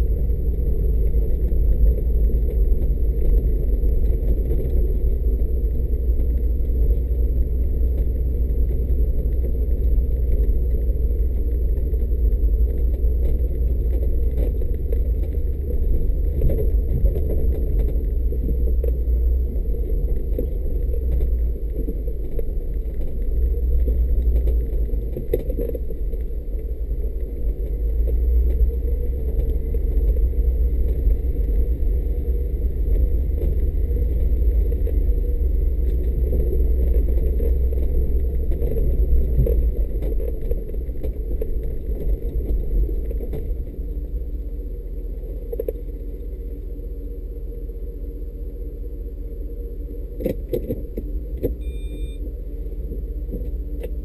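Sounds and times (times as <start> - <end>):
vehicle rumbling off-road: 0.0 - 54.0.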